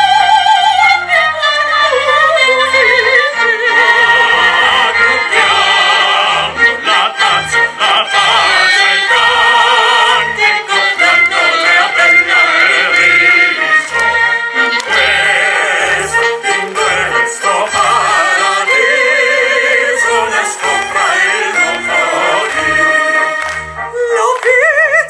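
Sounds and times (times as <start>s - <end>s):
operatic singing with vibrato: 0.0s - 25.0s
symphonic ensemble with low bass: 1.0s - 24.6s.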